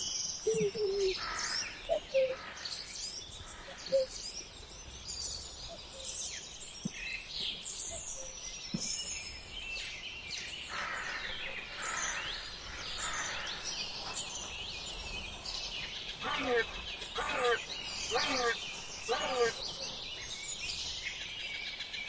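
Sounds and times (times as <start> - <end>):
outdoor background hiss: 0.0 - 22.0
songbirds chirping: 0.0 - 22.0.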